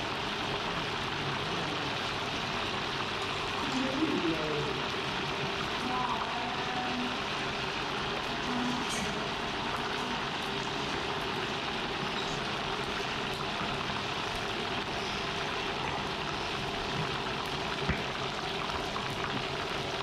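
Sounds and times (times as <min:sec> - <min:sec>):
food deep-frying in hot oil: 0:00.0 - 0:20.0.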